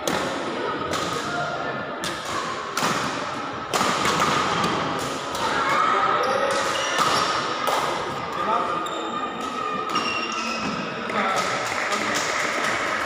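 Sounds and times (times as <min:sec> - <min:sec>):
sports hall background din: 0:00.0 - 0:13.0.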